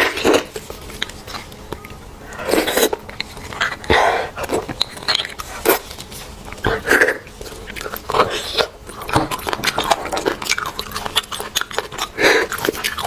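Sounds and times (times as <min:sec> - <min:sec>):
sucking and chewing mouth sounds: 0:00.0 - 0:13.0.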